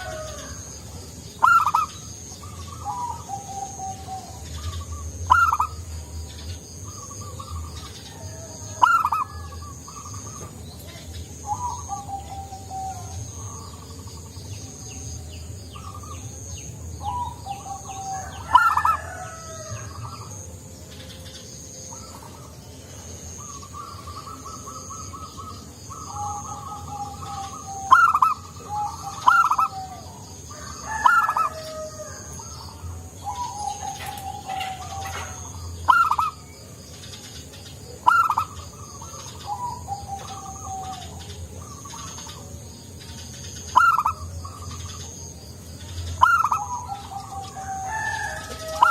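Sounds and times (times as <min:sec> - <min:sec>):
dove cooing: 0:00.0 - 0:45.1, 0:45.8 - 0:48.9
faint high pulsing buzz: 0:00.0 - 0:48.9.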